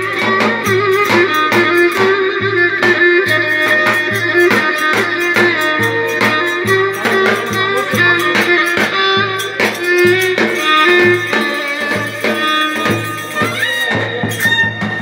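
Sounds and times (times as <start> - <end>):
bowed fiddle playing quick melody: 0.0 - 15.0
steady drum beat: 0.0 - 15.0.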